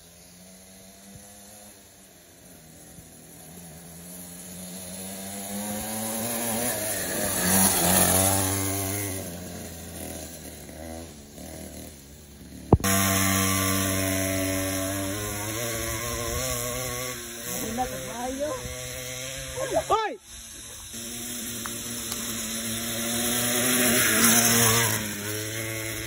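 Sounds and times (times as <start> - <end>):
small two-stroke engine passing by: 0.0 - 26.0.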